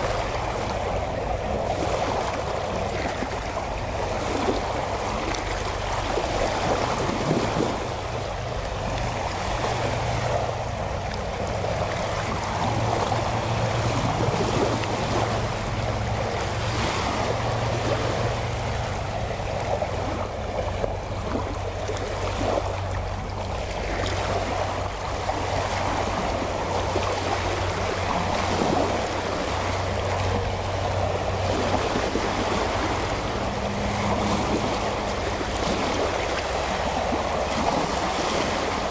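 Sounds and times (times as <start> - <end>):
distant motorboat engine drone: 0.0 - 38.9
small waves lapping on shore: 0.0 - 38.9.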